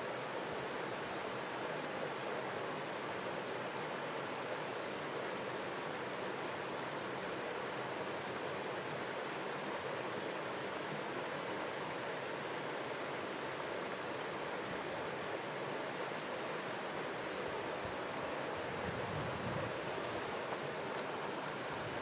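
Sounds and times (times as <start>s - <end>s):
stream water running: 0.0s - 22.0s.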